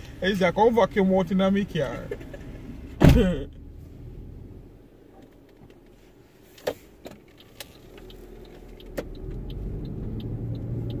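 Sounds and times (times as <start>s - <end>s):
car low rumble: 0.0s - 11.0s.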